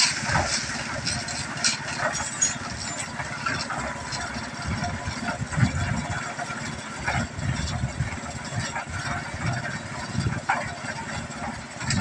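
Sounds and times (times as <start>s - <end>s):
cement mixer clattering: 0.0s - 12.0s
cement mixer motor drone: 0.0s - 12.0s.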